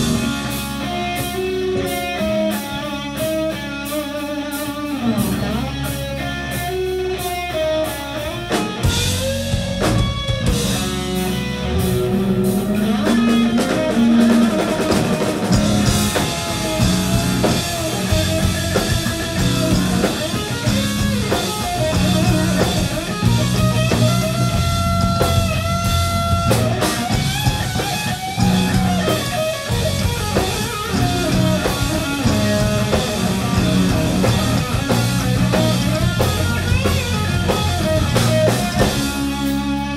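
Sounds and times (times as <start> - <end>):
bass guitar: 0.0 - 39.9
drum kit: 0.0 - 39.9
electric guitar bending notes: 0.0 - 39.9.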